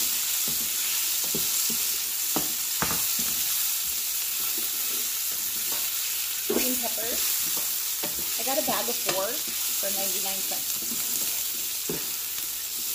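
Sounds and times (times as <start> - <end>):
food sizzling in oil: 0.0 - 12.9
spatula scraping pan: 0.0 - 12.9.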